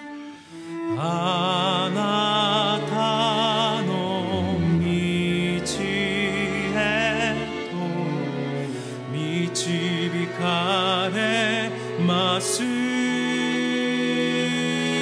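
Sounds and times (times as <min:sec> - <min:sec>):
held low accompanying notes: 0:00.7 - 0:15.0.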